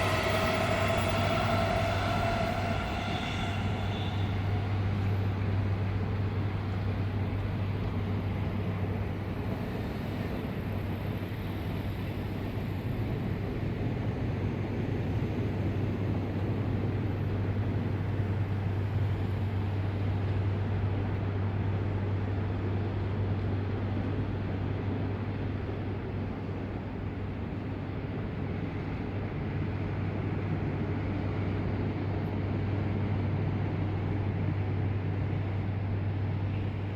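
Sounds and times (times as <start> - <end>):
train low rumble: 0.0 - 36.9.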